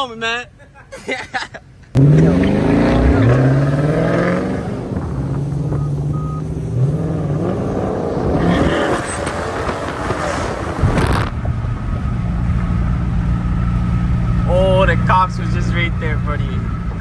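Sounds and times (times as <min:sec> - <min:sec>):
other cars running: 0:00.0 - 0:17.0
car engine idling: 0:01.8 - 0:17.0.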